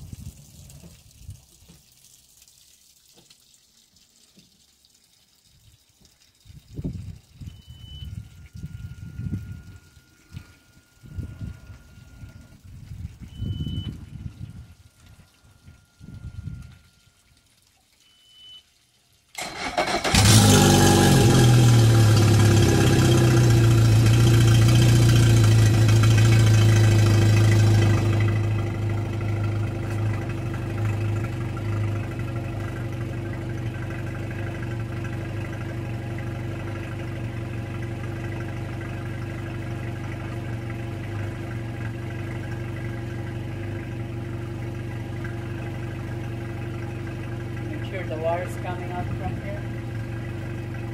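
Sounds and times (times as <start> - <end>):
outboard motor starting and idling: 6.8 - 17.6, 19.3 - 50.9.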